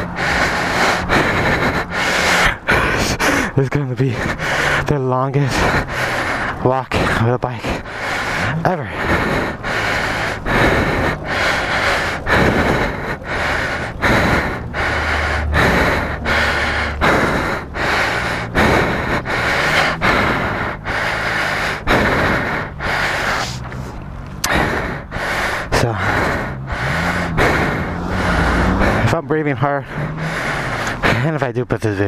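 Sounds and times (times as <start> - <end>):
man breathing heavily: 0.0 - 32.0
low rumble: 5.5 - 31.2.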